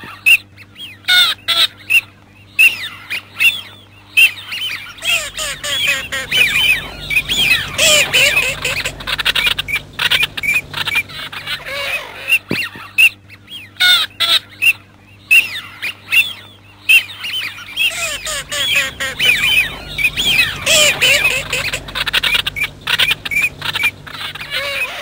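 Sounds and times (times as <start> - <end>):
duck flock whistling calls: 2.6 - 12.7, 14.6 - 25.0.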